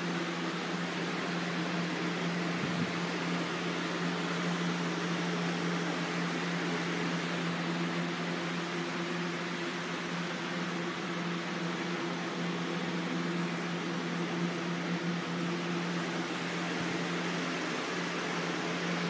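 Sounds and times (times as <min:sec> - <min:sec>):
electric fan running: 0:00.0 - 0:19.0.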